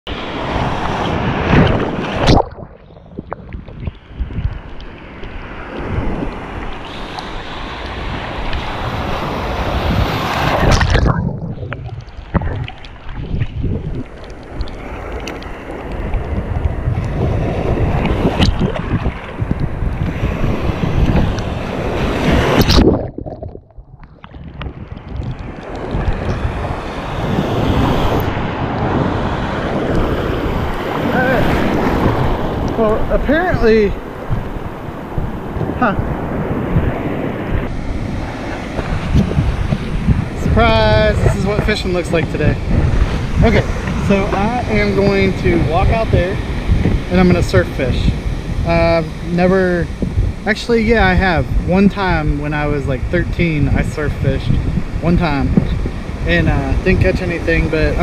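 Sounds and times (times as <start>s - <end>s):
surf breaking and water sloshing: 0.1s - 58.0s
wind on microphone: 0.1s - 58.0s.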